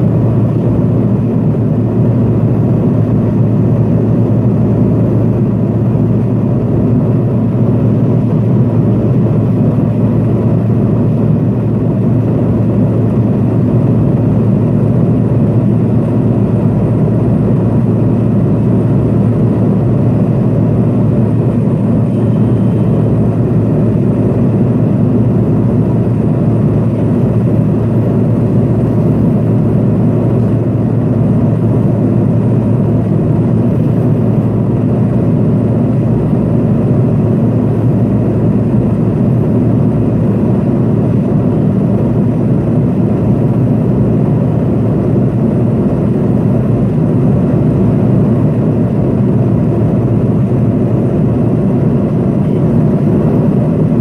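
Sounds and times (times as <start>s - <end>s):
turboprop engine droning in cabin: 0.0s - 54.0s.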